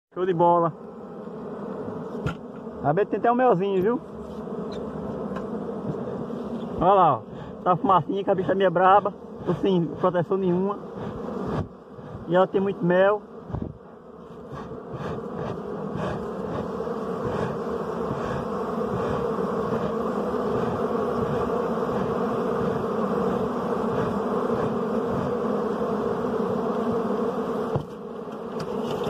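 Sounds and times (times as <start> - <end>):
bees buzzing: 0.1 - 29.0.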